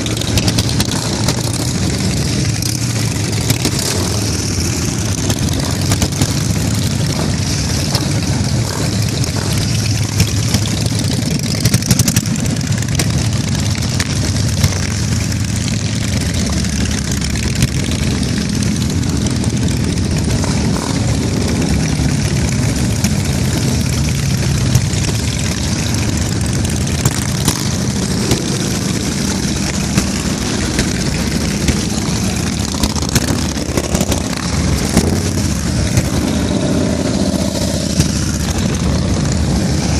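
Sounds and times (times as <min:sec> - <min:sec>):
motorcycle engines droning: 0:00.0 - 0:39.9.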